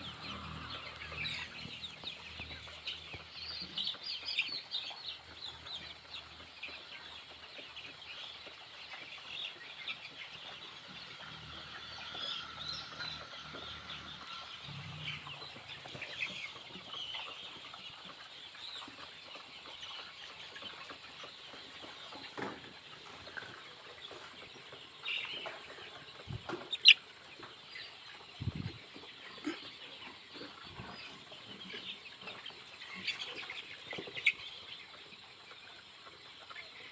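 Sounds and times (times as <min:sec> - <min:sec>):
chickens peeping and clucking: 0:00.0 - 0:36.9.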